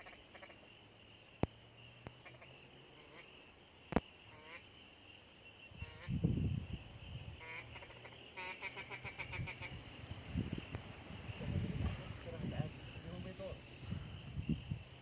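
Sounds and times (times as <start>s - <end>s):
waterfowl calling: 0.0s - 0.8s, 1.4s - 6.2s, 7.3s - 14.1s
high insect-like hiss: 0.0s - 15.0s.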